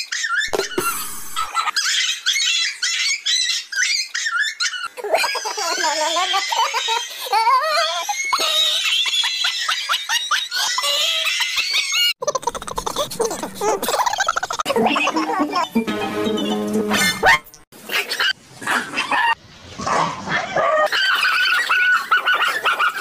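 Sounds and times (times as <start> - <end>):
high-pitched laughter and squeals: 0.0 - 19.4, 20.3 - 23.0.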